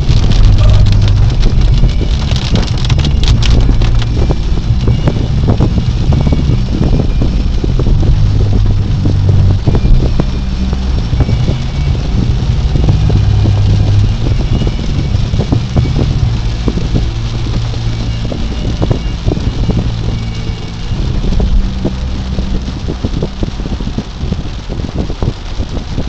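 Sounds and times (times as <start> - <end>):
engine and tyres on wet road: 0.0 - 26.0
rain drumming on car roof: 0.0 - 26.0.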